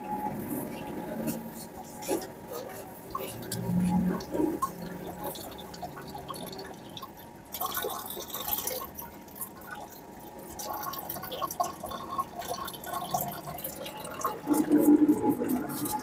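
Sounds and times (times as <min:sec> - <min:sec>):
water dripping and trickling: 0:02.2 - 0:16.0.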